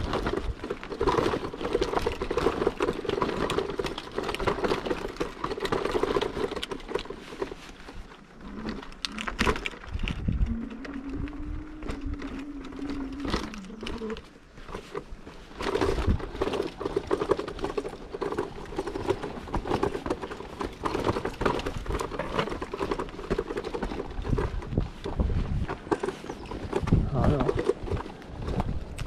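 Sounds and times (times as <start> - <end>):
scooter wheels rattling on stones: 0.0 - 29.0.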